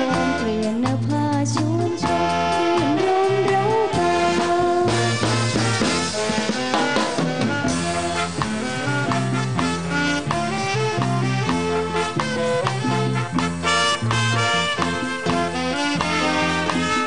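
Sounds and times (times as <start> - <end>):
saxophone section: 0.0 - 0.9, 1.8 - 17.0
big band playing: 0.0 - 17.0
drum kit: 0.0 - 17.0.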